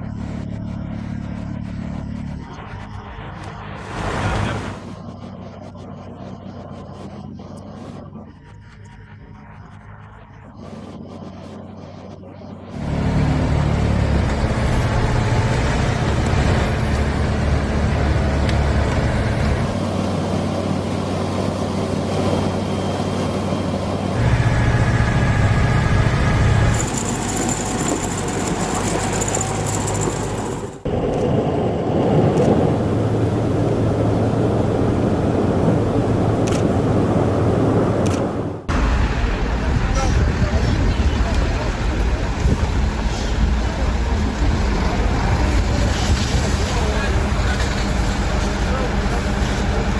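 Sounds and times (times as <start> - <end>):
heavy vehicle engines running: 0.0 - 49.9.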